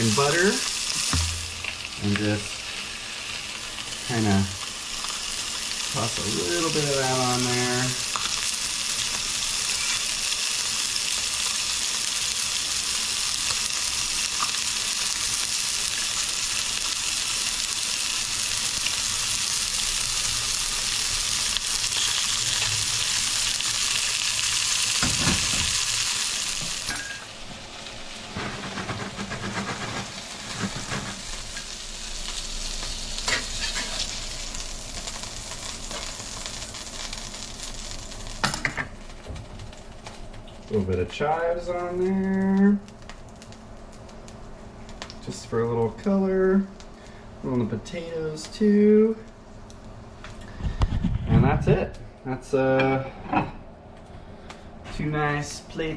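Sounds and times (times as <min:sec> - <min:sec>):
fish sizzling in a skillet: 0:00.0 - 0:47.3.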